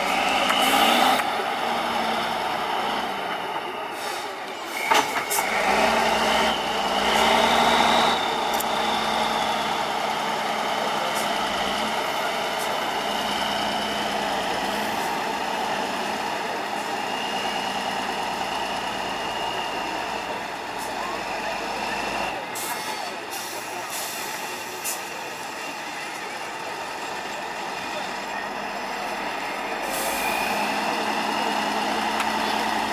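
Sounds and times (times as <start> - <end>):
truck diesel engine under load: 0.0 - 32.9.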